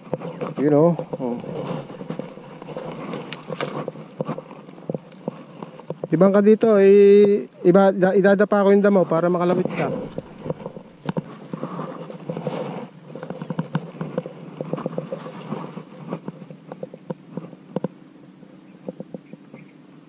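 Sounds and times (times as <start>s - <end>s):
plant stems crackling and rustling: 0.0s - 7.5s, 8.1s - 17.6s.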